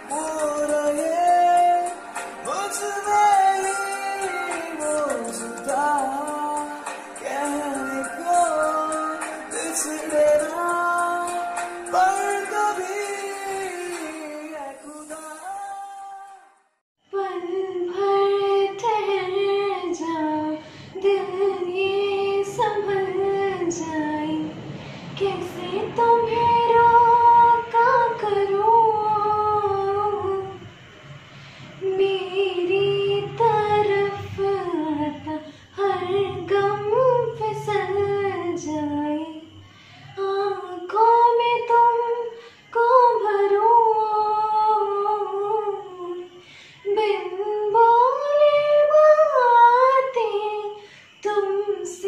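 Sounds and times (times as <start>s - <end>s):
woman singing: 0.0s - 24.6s, 25.2s - 30.7s, 31.8s - 39.6s, 40.2s - 52.0s.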